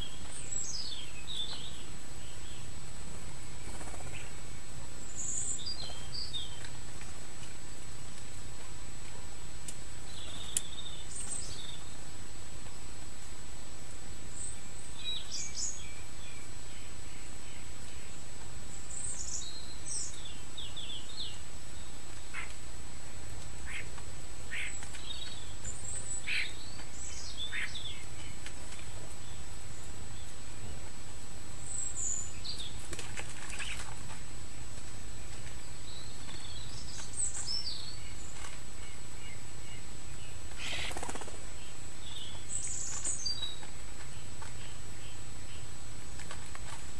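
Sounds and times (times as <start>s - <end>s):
small birds chirping: 0.0s - 13.0s, 14.2s - 46.9s
low background noise: 0.0s - 46.9s.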